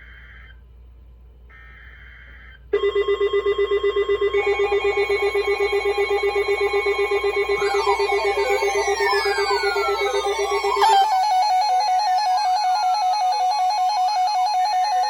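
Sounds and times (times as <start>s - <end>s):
buzzing digital data tones: 2.8s - 15.0s
weather alert radio alarm beeping: 2.8s - 15.0s.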